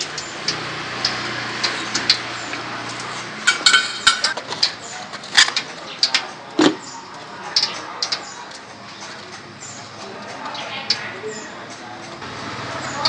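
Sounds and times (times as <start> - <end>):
utensils and cookware clattering: 0.0 - 13.0.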